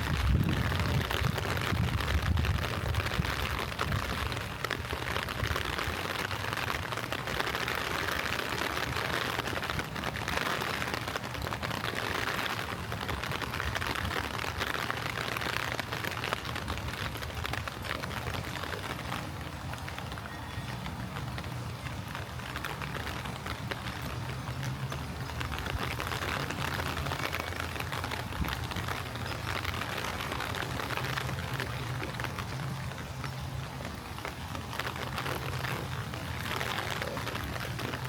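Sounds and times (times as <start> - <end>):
light rain falling: 0.0 - 38.0.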